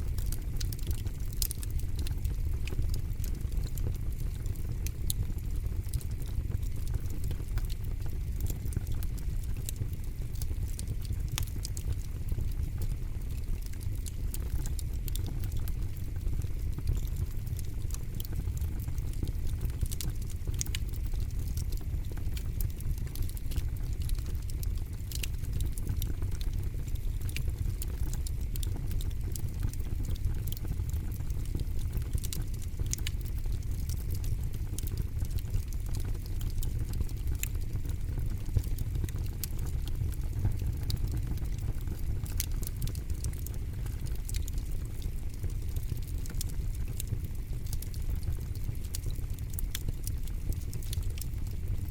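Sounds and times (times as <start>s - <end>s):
campfire crackling and popping: 0.0s - 51.9s
low rumble of flames: 0.0s - 51.9s.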